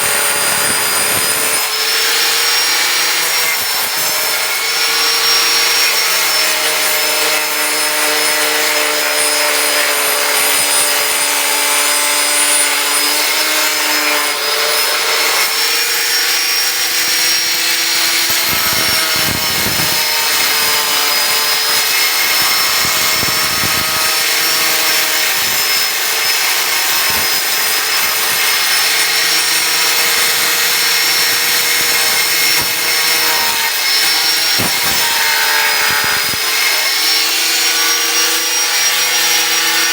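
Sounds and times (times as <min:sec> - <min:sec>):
angle grinder cutting metal: 0:00.0 - 0:39.9.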